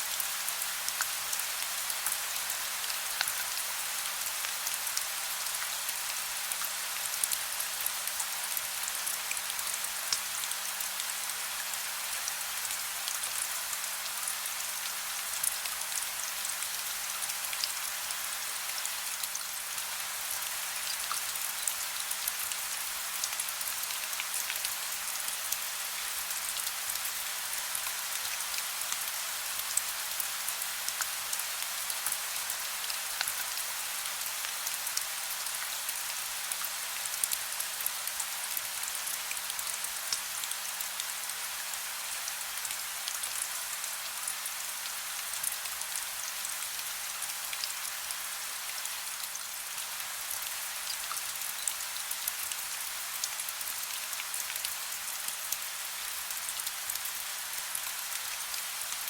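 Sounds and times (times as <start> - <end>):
soft rain: 0.0 - 59.0.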